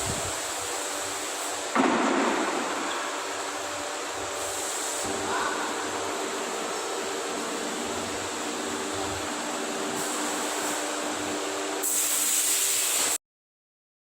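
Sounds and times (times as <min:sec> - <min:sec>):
industrial machinery hiss: 0:00.0 - 0:13.2
machinery hum and whine: 0:00.0 - 0:13.2.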